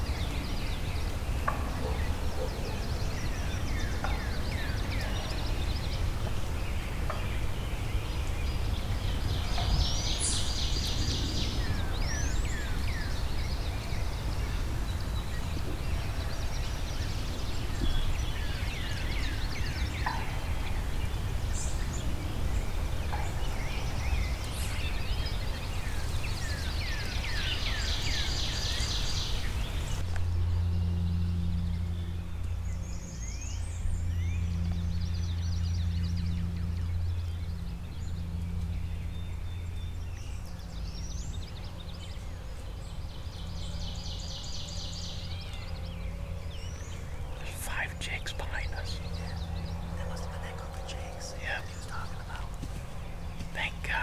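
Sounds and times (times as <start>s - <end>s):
low wind rumble: 0.0s - 54.0s
songbirds chirping: 0.0s - 54.0s.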